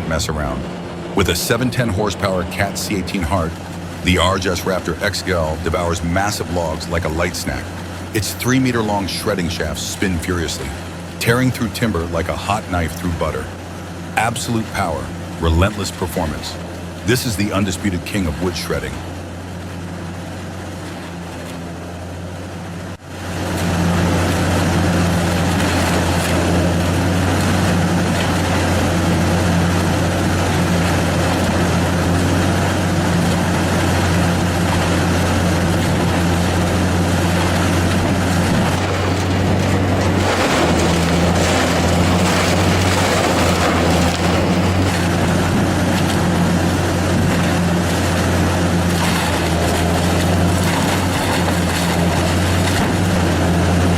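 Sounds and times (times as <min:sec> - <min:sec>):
grinding noise: 0:00.0 - 0:19.0, 0:23.4 - 0:53.9
diesel engine droning: 0:00.0 - 0:53.9.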